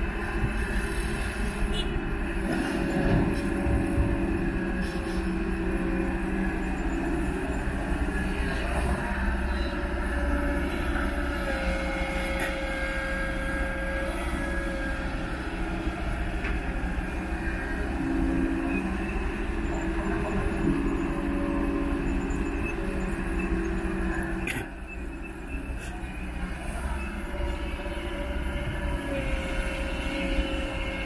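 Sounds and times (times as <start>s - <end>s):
excavator diesel engine under load: 0.0s - 31.0s.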